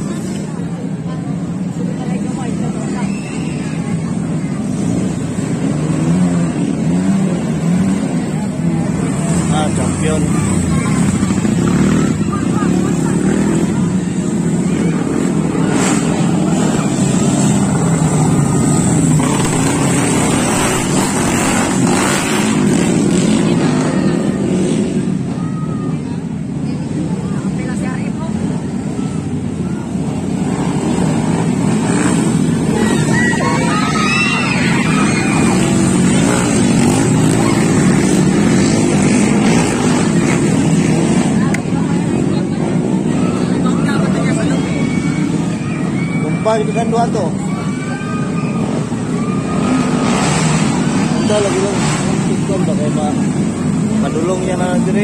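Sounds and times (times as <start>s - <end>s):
racing motorcycle engines: 0.0s - 55.0s.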